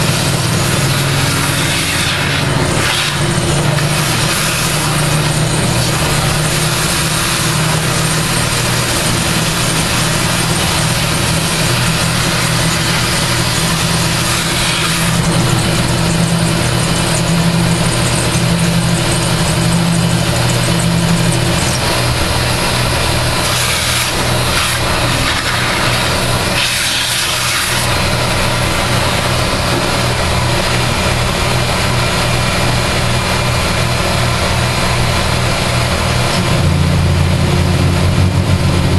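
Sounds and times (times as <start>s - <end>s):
machine motor hum: 0.0s - 38.9s
shop vacuum running: 0.0s - 38.9s.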